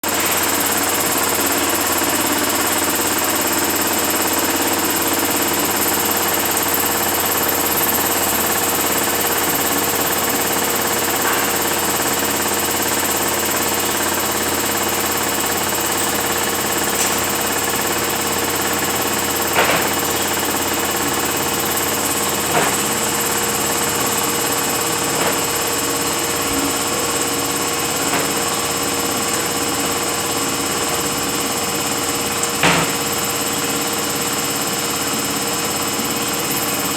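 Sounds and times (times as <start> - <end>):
transmission gear whine: 0.1 - 36.9.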